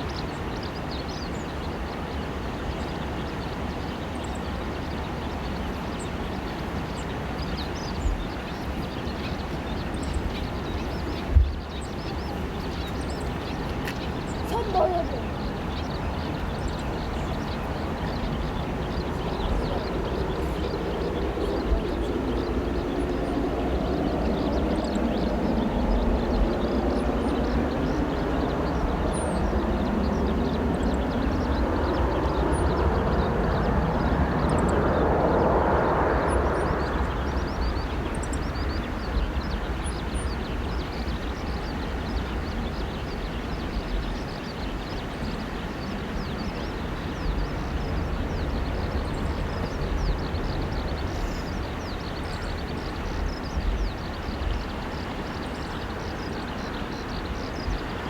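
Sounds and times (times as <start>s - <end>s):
jet engines on landing roll: 0.0s - 58.0s.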